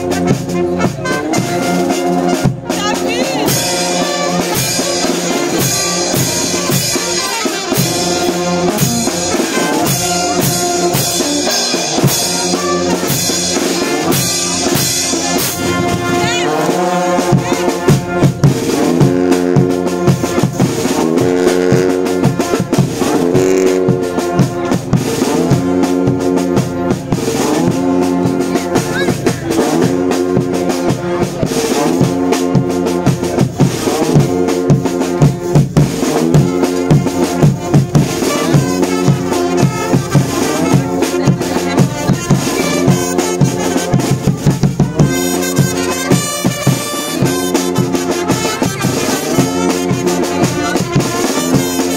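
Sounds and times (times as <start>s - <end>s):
brass band playing: 0.0s - 51.9s
drums beating: 0.0s - 51.9s.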